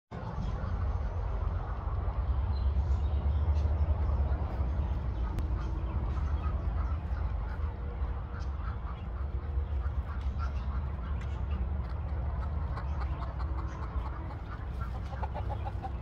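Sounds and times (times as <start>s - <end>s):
steady low rumble: 0.1s - 16.0s
birds calling: 0.2s - 16.0s.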